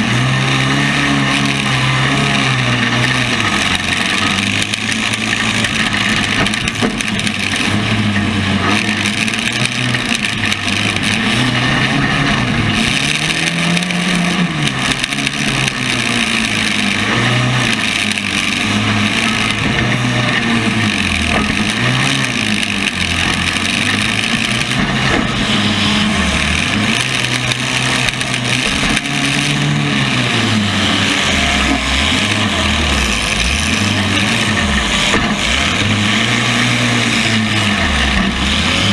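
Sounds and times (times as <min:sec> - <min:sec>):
car engines revving: 0:00.0 - 0:38.9
noisy rumble: 0:00.0 - 0:38.9.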